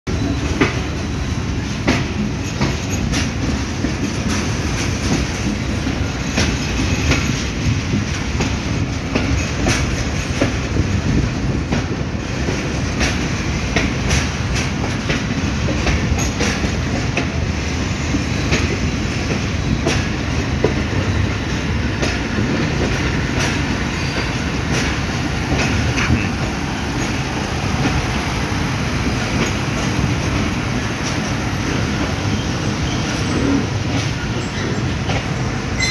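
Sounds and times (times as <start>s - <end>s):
train wheels rumbling: 0.1s - 35.9s
wheels clacking over rail joints: 0.2s - 35.9s.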